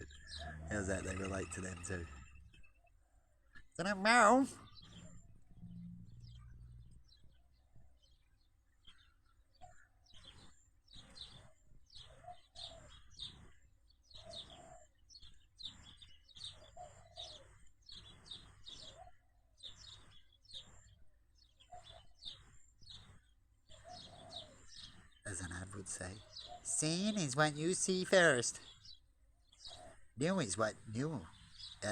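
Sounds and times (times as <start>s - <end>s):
sparrows chirping: 0.0s - 31.9s.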